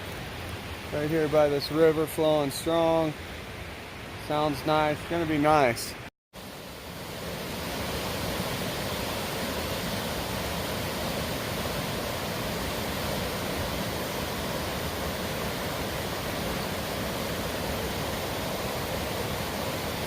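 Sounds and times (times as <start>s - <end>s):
mountain river rushing: 0.0s - 20.0s.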